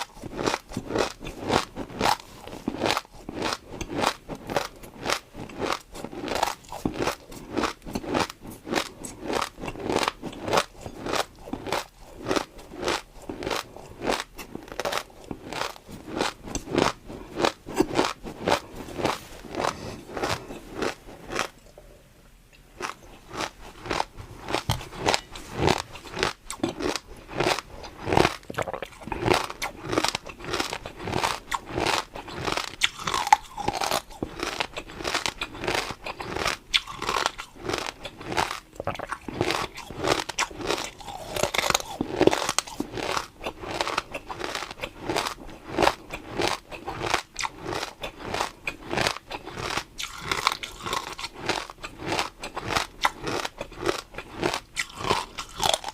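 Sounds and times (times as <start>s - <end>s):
crunchy chewing of food: 0.0s - 55.9s.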